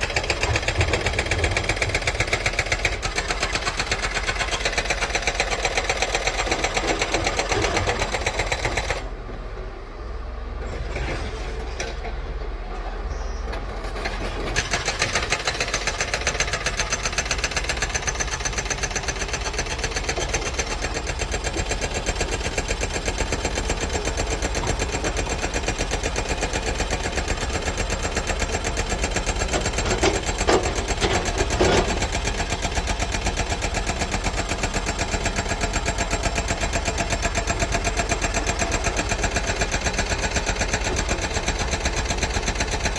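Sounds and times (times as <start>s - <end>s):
excavator diesel engine running: 0.0s - 9.5s, 13.5s - 42.9s.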